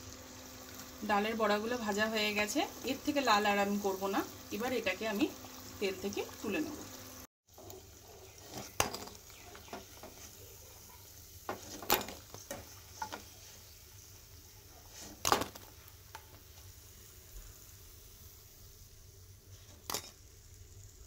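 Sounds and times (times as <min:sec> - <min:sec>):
hot oil sizzling: 0:00.0 - 0:21.0.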